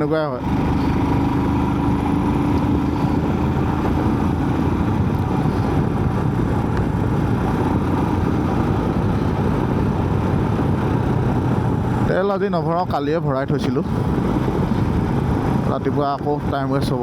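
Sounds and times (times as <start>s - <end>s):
faint steady engine tone: 0.0s - 16.4s
motorcycle engine and road noise: 0.0s - 17.0s.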